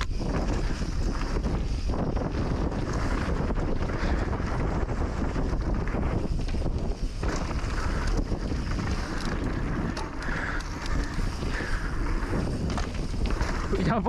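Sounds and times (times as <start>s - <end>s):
tyres rumbling on dirt: 0.0s - 14.0s
wind on microphone: 0.0s - 14.0s.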